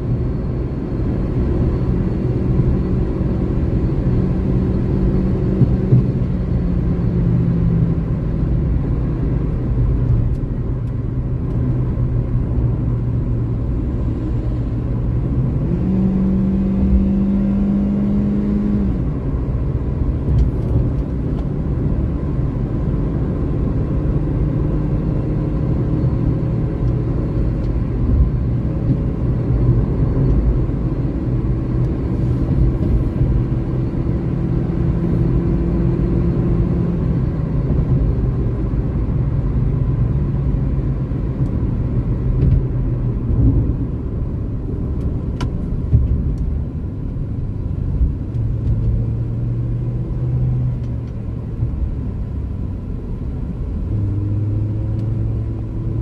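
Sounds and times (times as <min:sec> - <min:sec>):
car engine drone: 0:00.0 - 0:56.0
road and tyre rumble: 0:00.0 - 0:56.0.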